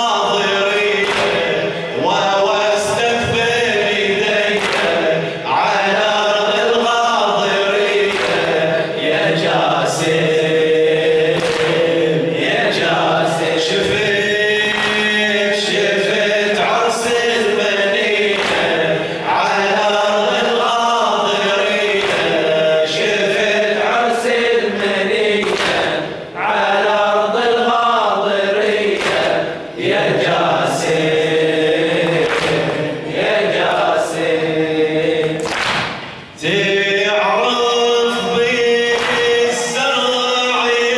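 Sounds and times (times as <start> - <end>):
man chanting into a microphone: 0.0 - 32.7, 36.4 - 40.9.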